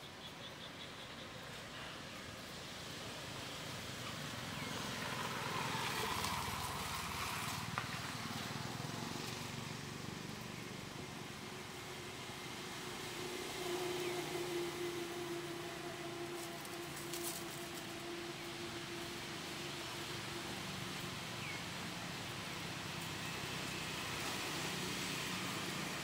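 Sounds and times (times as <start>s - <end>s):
outdoor background noise: 0.0s - 26.0s
distant vehicle engine passing: 2.8s - 26.0s.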